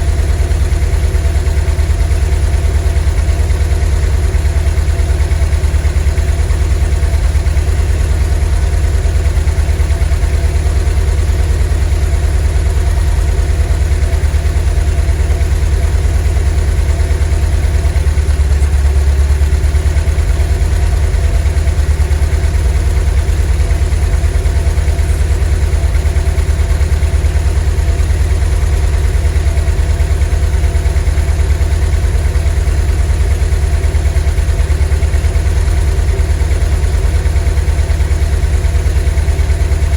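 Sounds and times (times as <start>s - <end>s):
van engine idling: 0.0s - 39.9s.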